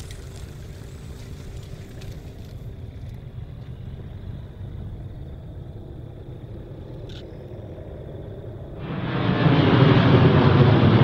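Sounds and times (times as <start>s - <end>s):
distant jet engine rumble: 0.0s - 11.0s.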